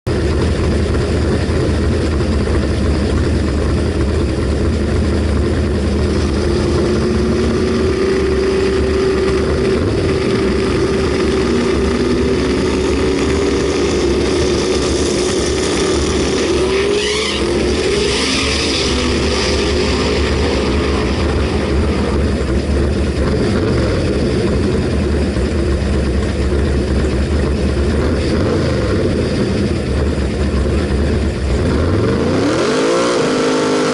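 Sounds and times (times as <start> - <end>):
drag car engine rumbling: 0.0 - 33.9.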